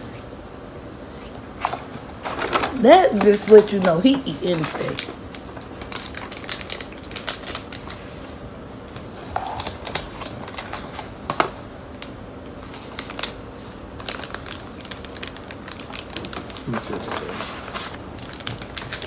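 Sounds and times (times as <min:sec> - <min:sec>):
plastic wrapper crinkling: 0:01.6 - 0:08.2, 0:09.0 - 0:19.0.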